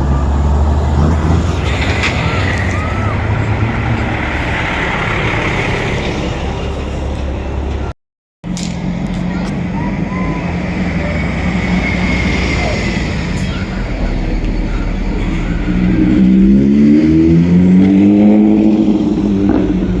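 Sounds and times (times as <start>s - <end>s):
heavy truck engine revving: 0.0s - 20.0s.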